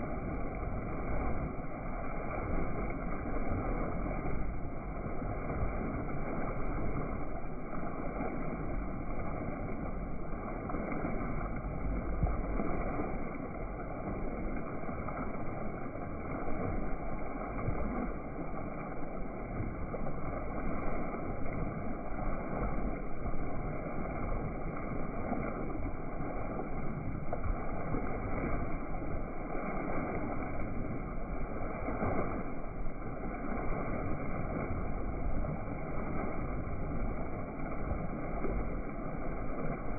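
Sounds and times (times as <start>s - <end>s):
low rumble: 0.0s - 39.9s
water washing along boat hull: 0.0s - 39.9s.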